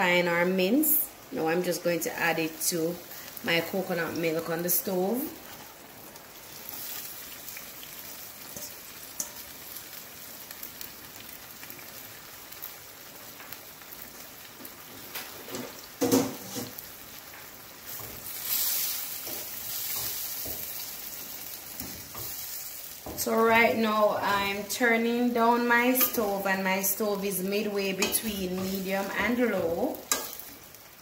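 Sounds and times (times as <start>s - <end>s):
sauce sizzling in a frying pan: 0.0s - 31.0s.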